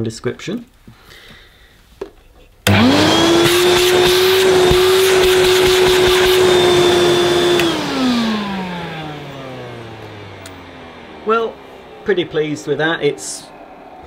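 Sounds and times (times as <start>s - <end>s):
vacuum cleaner motor whining: 2.7s - 14.0s.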